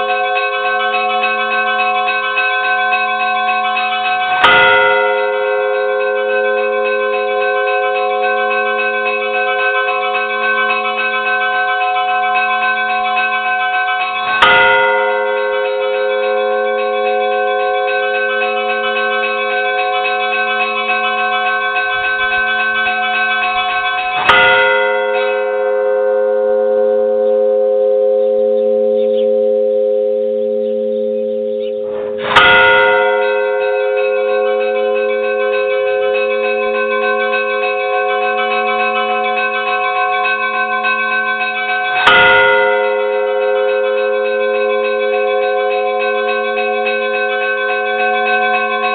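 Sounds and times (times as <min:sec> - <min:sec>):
large church bell ringing: 0:00.0 - 0:48.9.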